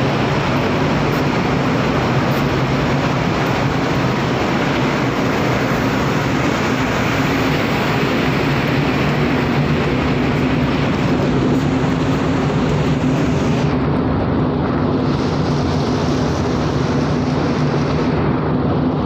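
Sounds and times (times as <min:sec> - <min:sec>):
even rushing noise: 0:00.0 - 0:19.0
ship machinery low hum: 0:00.0 - 0:19.0.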